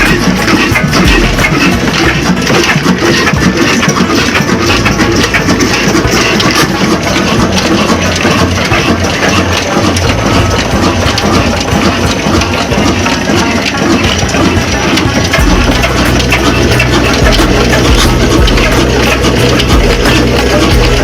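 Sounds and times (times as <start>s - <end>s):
large diesel engine running: 0.0s - 21.0s.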